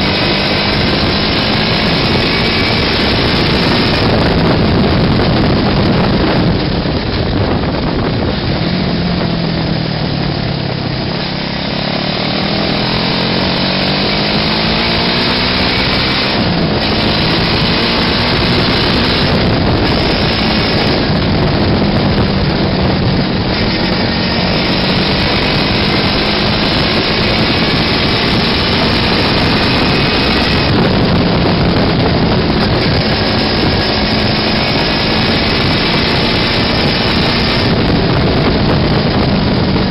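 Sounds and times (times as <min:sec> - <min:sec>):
small buggy engine buzzing: 0:00.0 - 0:39.9.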